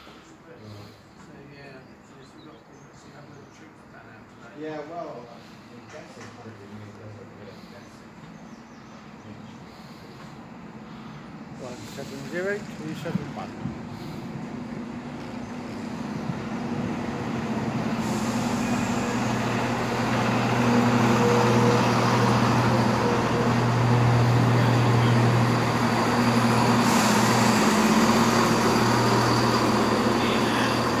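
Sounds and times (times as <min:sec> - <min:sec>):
diesel train engine humming: 0:05.1 - 0:31.0.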